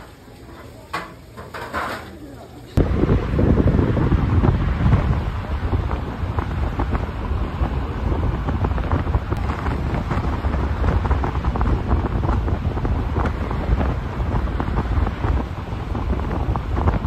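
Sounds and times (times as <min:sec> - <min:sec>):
wind buffeting microphone: 0:02.8 - 0:17.0.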